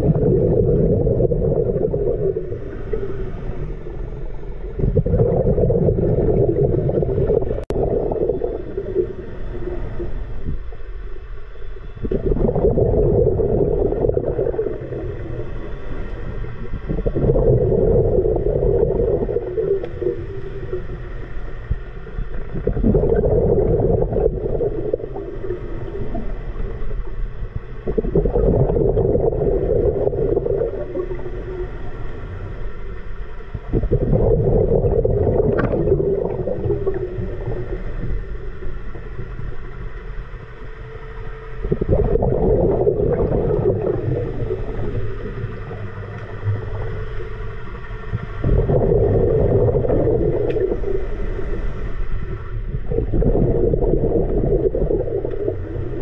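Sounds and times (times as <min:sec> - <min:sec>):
diver's exhaled bubbles rumbling: 0:00.0 - 0:03.7, 0:04.6 - 0:10.6, 0:12.0 - 0:31.8, 0:33.4 - 0:39.9, 0:41.5 - 0:56.0.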